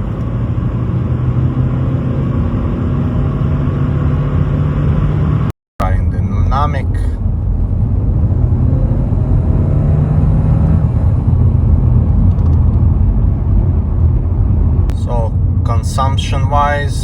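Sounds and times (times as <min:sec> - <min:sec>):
car engine running: 0:00.0 - 0:17.0
low road rumble: 0:00.0 - 0:17.0.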